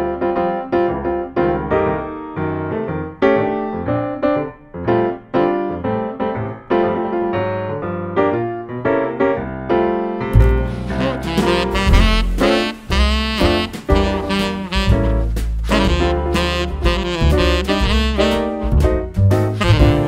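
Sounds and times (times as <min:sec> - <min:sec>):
piano melody: 0:00.0 - 0:20.0.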